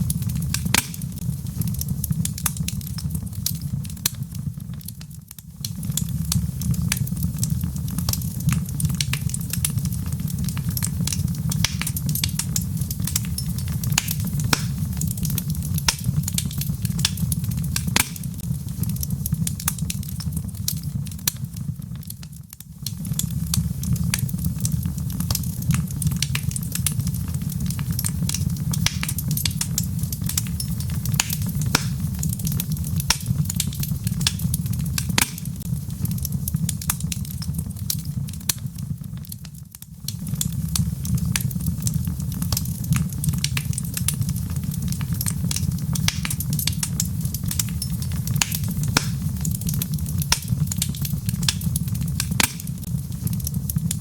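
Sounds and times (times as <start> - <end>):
logs crackling and popping: 0.0 - 54.0
low rumble of flame: 0.0 - 54.0.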